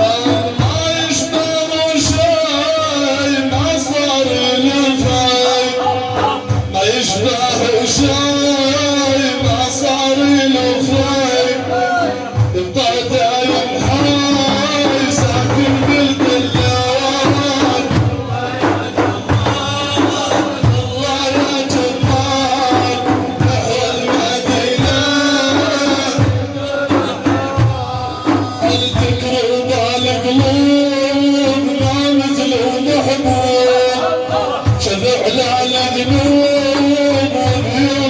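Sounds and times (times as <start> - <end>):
hand drums beating: 0.0 - 38.0.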